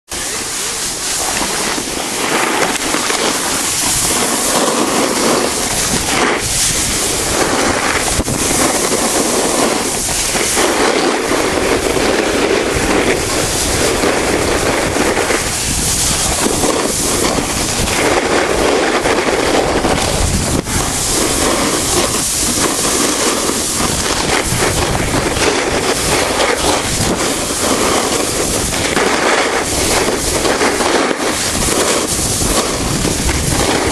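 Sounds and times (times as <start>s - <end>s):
snowboard scraping over snow: 0.1s - 33.9s
wind buffeting microphone: 0.1s - 33.9s.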